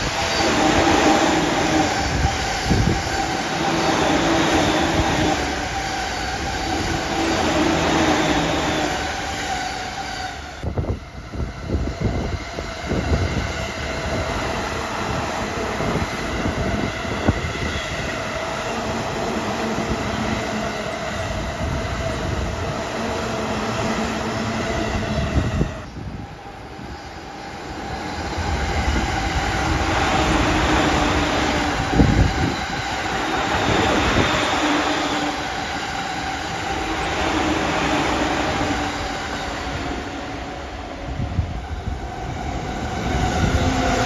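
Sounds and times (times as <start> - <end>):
train rushing past: 0.0 - 44.0.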